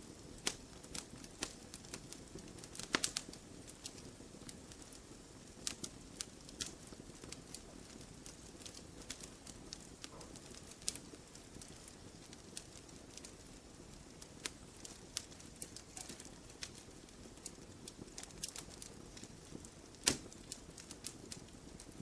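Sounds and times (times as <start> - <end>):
campfire wood crackling: 0.0 - 22.0.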